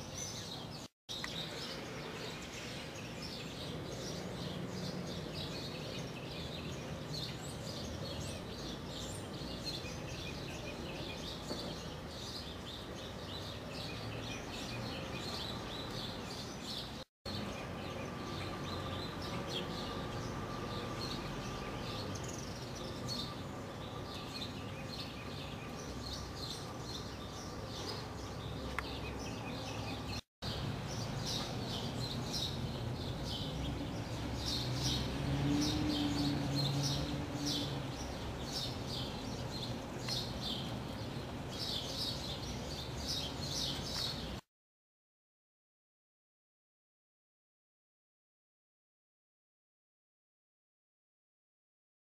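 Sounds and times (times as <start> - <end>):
birds chirping: 0.0 - 44.4
outdoor background noise: 0.0 - 44.5.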